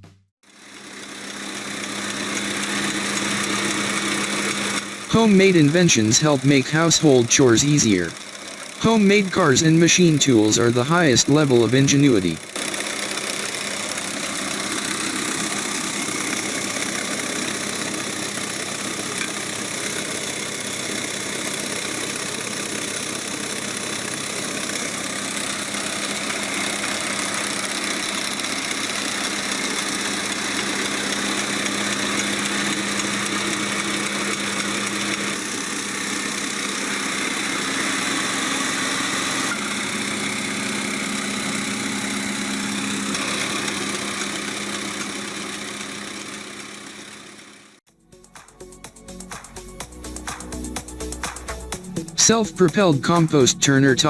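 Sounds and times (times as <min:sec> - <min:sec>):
engine humming: 0:00.5 - 0:47.8.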